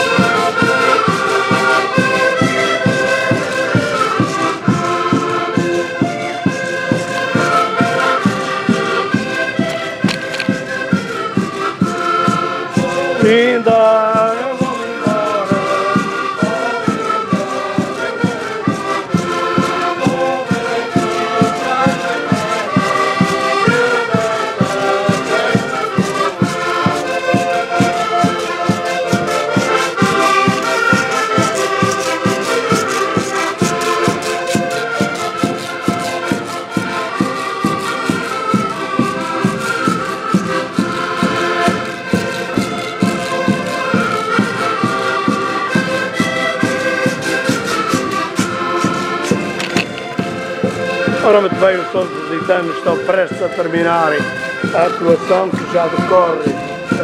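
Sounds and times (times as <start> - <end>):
accordions playing in unison: 0.0 - 57.0
steady accordion bass beat: 0.0 - 57.0.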